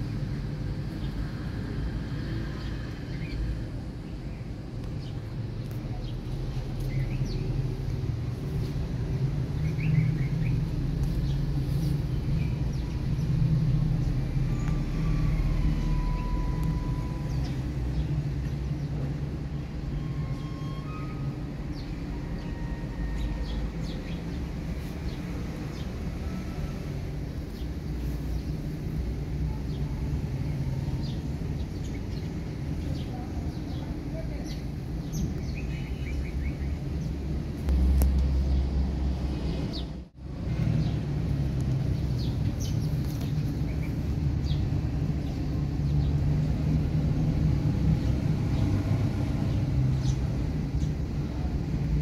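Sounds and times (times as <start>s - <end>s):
low engine rumble: 0.0s - 52.0s.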